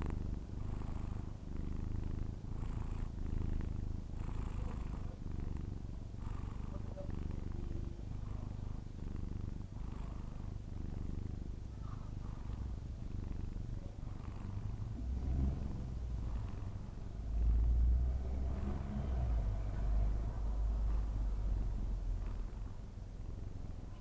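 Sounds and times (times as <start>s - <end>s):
cat snoring: 0.0s - 24.0s.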